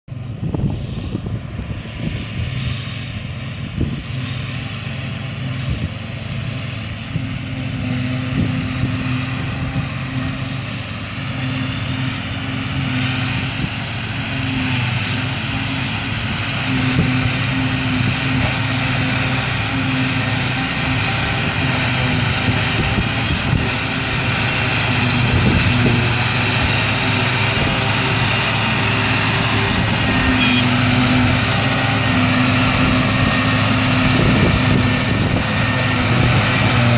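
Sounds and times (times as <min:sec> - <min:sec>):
tractor engine drone: 0:00.0 - 0:36.9
harvester whirring rush: 0:00.1 - 0:36.9.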